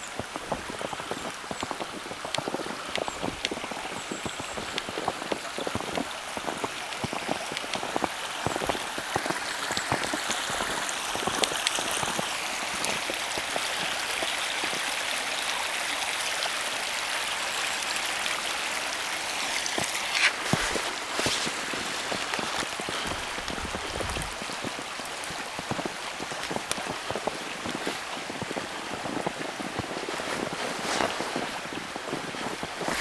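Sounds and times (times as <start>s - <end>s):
footsteps crunching in snow: 0.0s - 14.8s, 19.3s - 33.0s.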